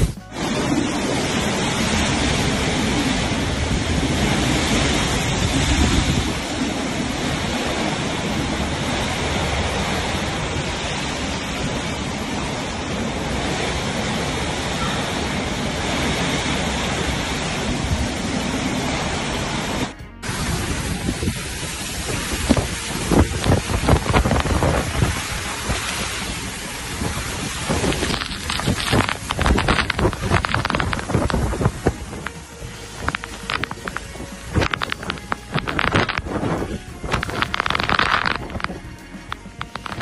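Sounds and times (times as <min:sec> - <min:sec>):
heavy rain on metal roof: 0:00.0 - 0:40.0
storm wind: 0:00.0 - 0:40.0.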